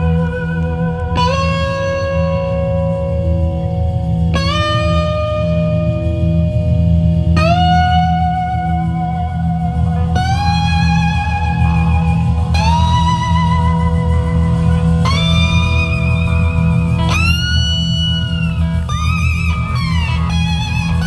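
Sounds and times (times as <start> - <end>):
electric slide guitar: 0.0 - 21.0
steady low band backing: 0.0 - 21.0.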